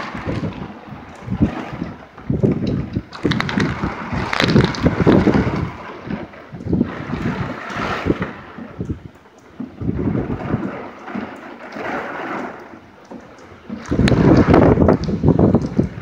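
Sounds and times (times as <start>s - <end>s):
rain falling: 0.0s - 16.0s
wind gusting against microphone: 0.0s - 16.0s.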